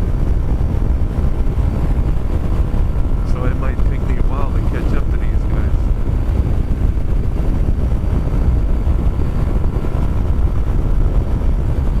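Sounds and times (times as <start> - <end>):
scooter engine at highway speed: 0.0 - 12.0
wind rumble on microphone: 0.0 - 12.0.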